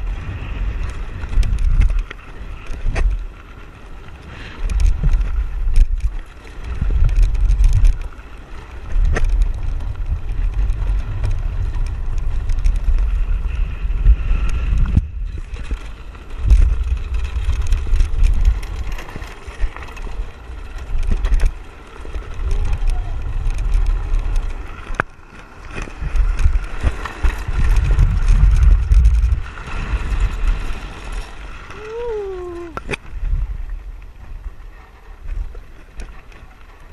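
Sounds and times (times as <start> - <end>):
cart rattling and ticking: 0.0 - 33.1
wind buffeting microphone: 0.0 - 36.9.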